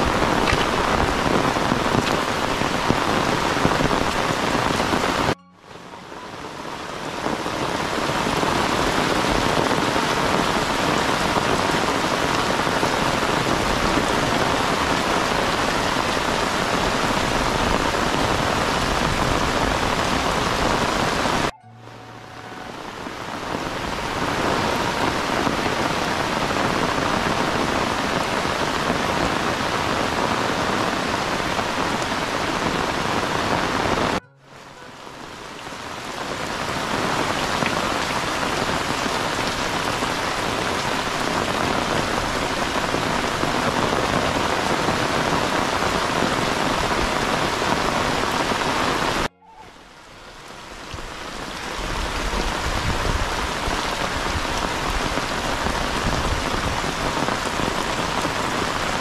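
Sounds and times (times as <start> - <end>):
heavy rain on tiled roofs: 0.0 - 59.0.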